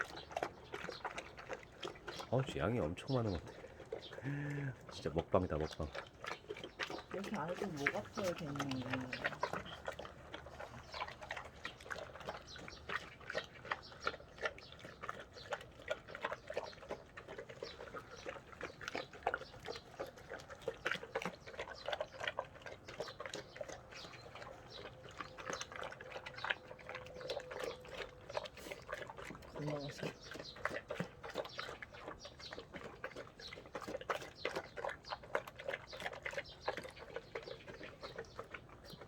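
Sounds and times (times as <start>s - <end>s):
dog chewing and crunching: 0.0s - 39.0s.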